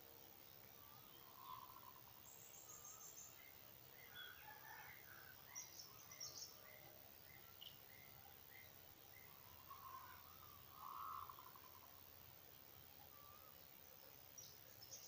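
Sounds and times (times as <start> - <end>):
birds chirping and warbling: 0.5 - 15.0.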